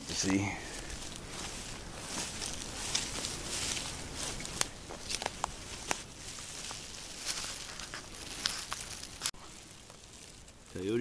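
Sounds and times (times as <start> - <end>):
footsteps: 0.0 - 10.7
rustling: 0.0 - 11.0
steady hiss: 0.0 - 11.0.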